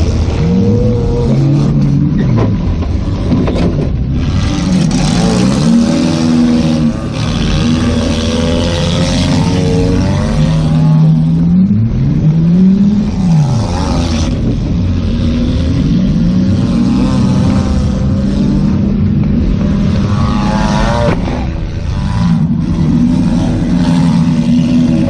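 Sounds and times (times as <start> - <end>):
car engine revving: 0.0 - 25.0
loud rushing noise: 0.0 - 25.0.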